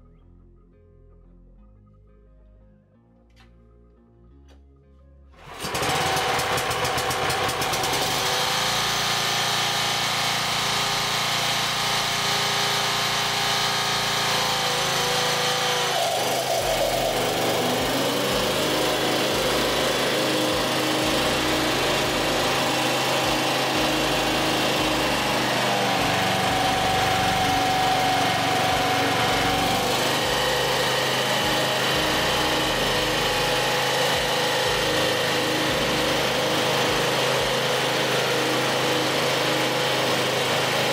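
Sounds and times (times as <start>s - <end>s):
lawn mower engine running: 5.4s - 40.9s.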